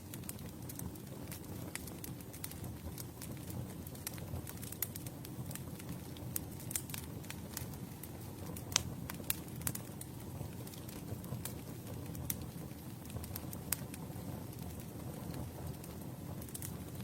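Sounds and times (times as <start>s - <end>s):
campfire crackling and popping: 0.0s - 17.0s
low rushing flame: 0.0s - 17.0s.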